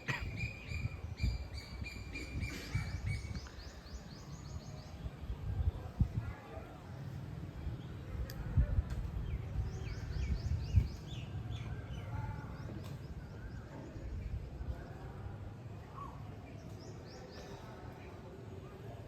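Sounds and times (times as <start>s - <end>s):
birds singing: 0.0s - 6.2s, 7.8s - 15.2s, 15.8s - 18.2s.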